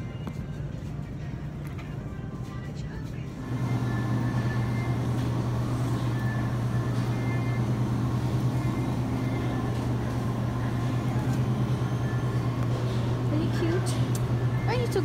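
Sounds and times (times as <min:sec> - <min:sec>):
refrigerated display cases humming: 0:00.0 - 0:15.0.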